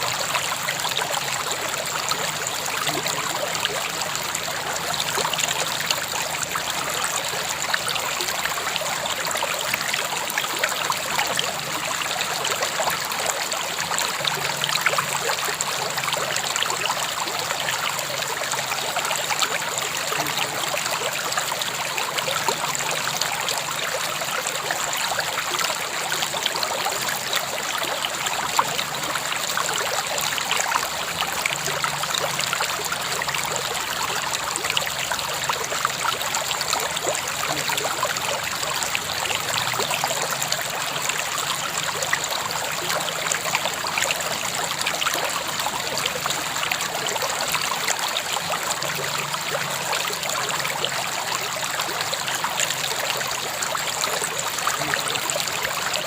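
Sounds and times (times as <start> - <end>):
river babbling over stones: 0.0 - 56.0.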